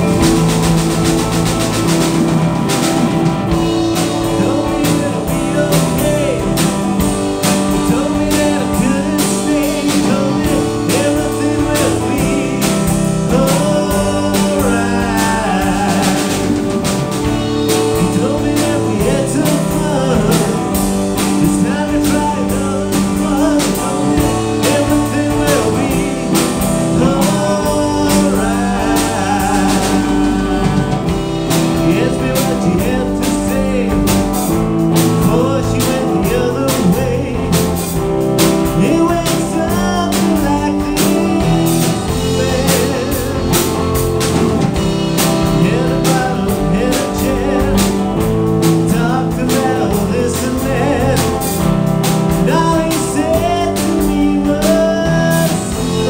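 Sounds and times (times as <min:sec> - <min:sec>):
live rock band playing: 0:00.0 - 0:56.0
steady drum beat: 0:00.0 - 0:56.0
male singer: 0:03.5 - 0:56.0.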